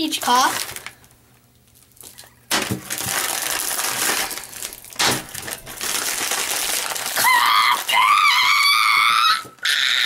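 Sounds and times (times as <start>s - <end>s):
loud crushing crinkling noise: 0.0s - 10.0s.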